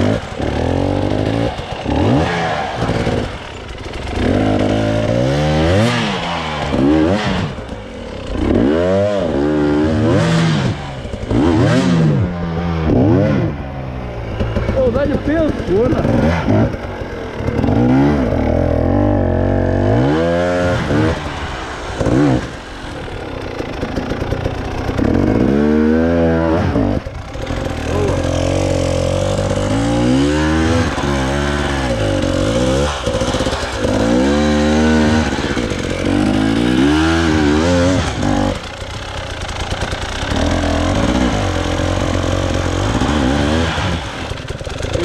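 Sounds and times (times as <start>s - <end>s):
motorcycle engine revving hard: 0.0s - 45.0s.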